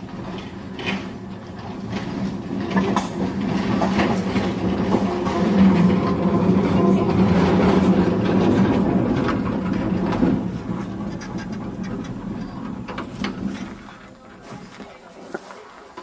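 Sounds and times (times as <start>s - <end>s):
rail clicks: 0.0s - 16.0s
tram rumbling along track: 0.0s - 16.0s.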